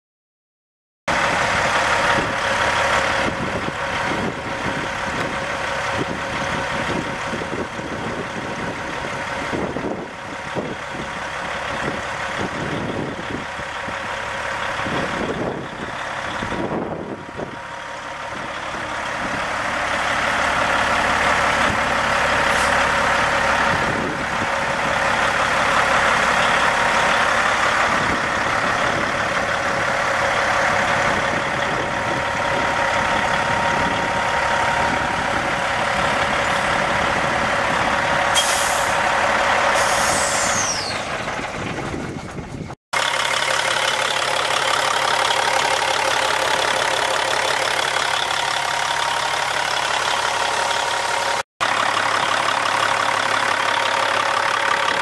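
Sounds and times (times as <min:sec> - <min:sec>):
diesel truck engine idling: 0:01.1 - 0:55.0.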